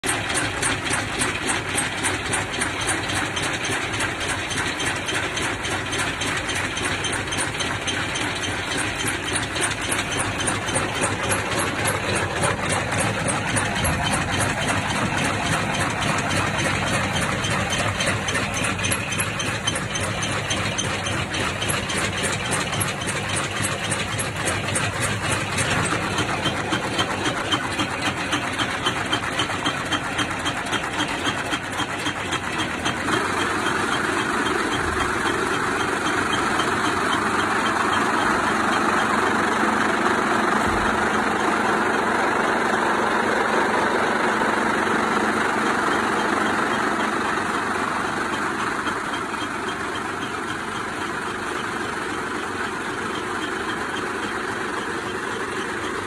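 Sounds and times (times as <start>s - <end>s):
vibration test machine running: 0.0s - 56.0s.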